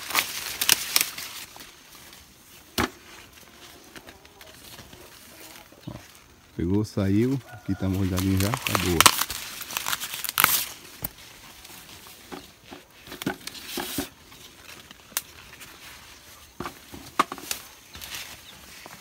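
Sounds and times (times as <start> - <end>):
dry corn leaves rustling: 0.0 - 19.0.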